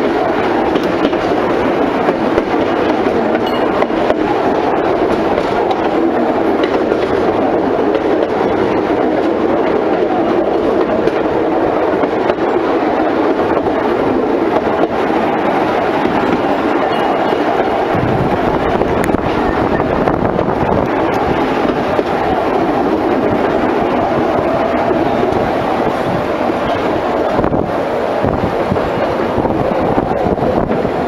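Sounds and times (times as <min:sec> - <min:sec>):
train wheels running on rail: 0:00.0 - 0:31.0.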